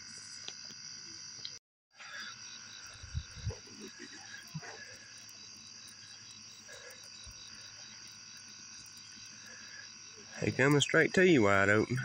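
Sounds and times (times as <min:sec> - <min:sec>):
frogs and insects calling: 0:00.0 - 0:12.0.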